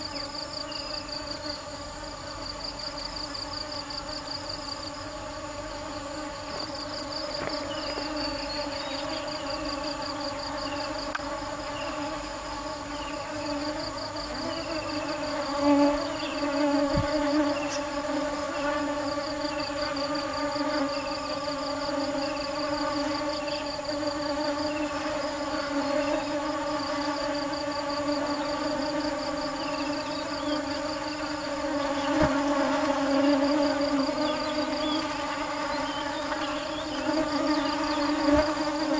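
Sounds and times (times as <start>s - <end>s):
honeybees buzzing: 0.0s - 38.9s.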